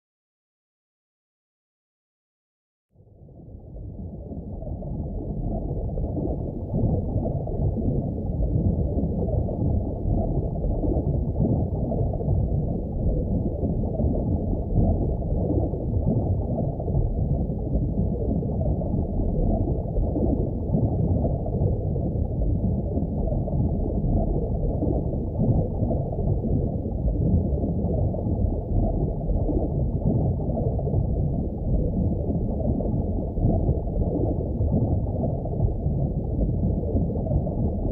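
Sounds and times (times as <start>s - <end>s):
muffled underwater ocean rumble: 3.0s - 37.9s.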